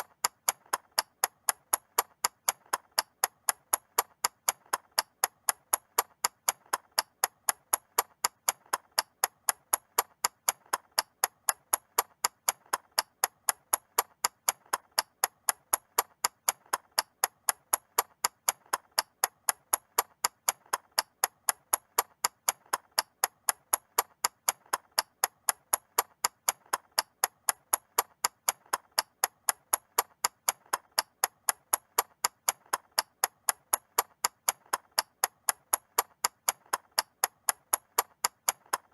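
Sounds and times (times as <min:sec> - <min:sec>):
mechanical clock ticking: 0:00.0 - 0:38.9.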